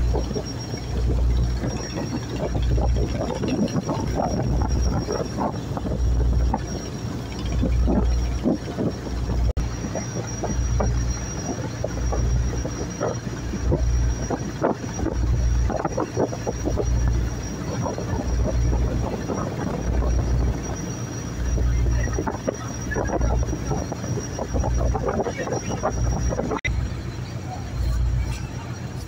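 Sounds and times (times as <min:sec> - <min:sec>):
boat low rumble: 0:00.0 - 0:29.0
wind buffeting microphone: 0:00.0 - 0:29.0.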